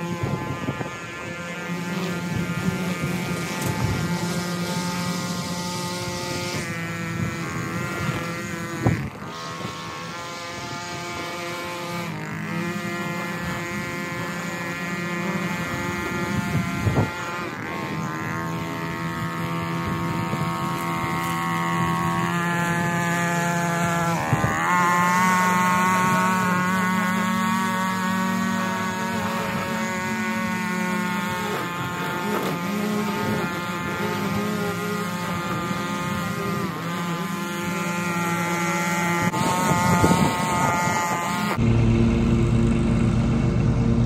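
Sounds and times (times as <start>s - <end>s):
string trimmer engine running: 0.0s - 44.0s.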